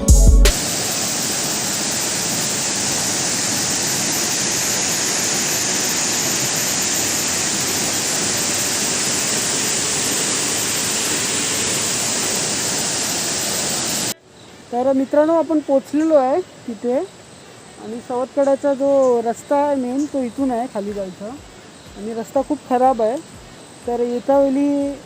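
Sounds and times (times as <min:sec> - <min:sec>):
rush of falling water: 0:00.5 - 0:25.0.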